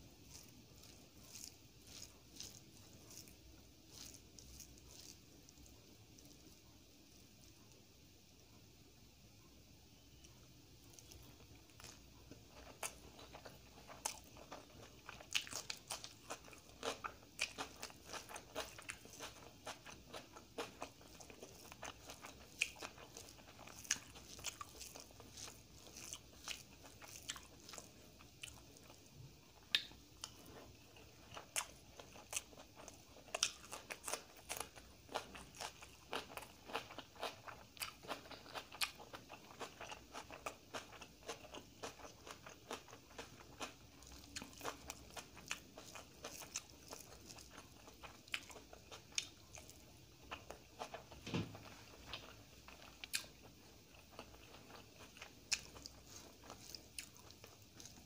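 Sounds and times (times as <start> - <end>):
person chewing food: 0.0 - 7.5, 10.8 - 58.0.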